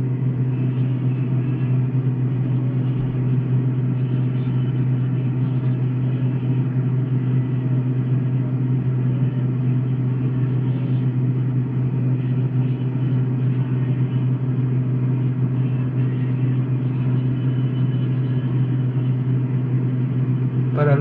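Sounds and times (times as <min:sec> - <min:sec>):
refrigerator humming: 0:00.0 - 0:21.0.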